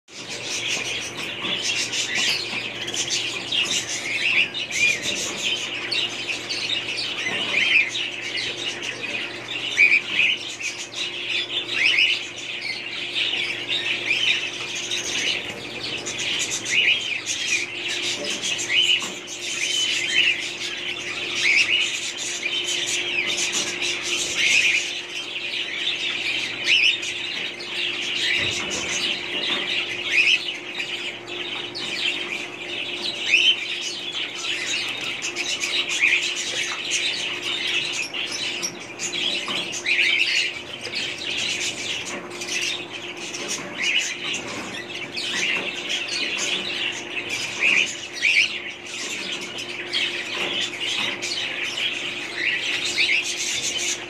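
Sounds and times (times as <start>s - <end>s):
caged birds chirping: 0.0s - 54.0s.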